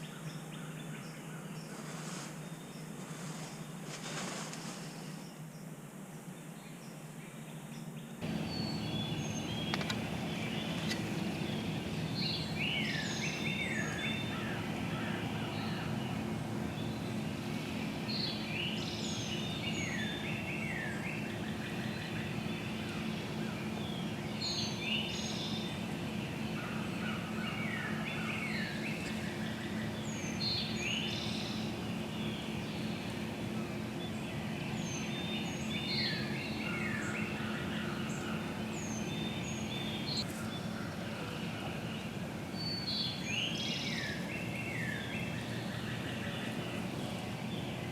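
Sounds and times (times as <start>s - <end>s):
songbirds singing: 0.0s - 47.9s
steady background noise: 0.0s - 47.9s.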